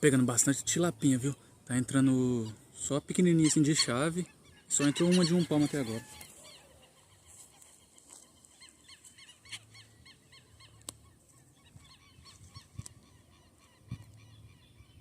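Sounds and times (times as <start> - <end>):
faint bird calls: 0.6 - 15.0.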